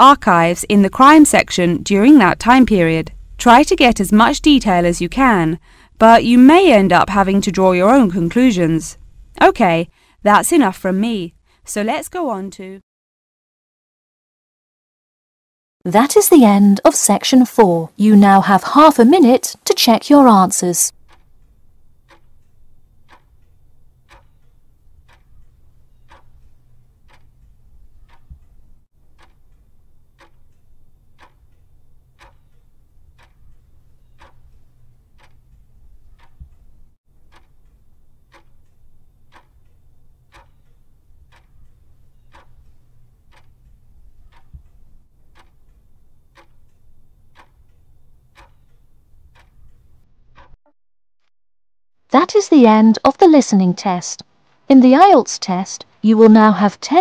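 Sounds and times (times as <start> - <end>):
clock ticking: 0.0 - 12.8, 15.9 - 50.6
low steady hum: 0.0 - 12.8, 15.9 - 50.4.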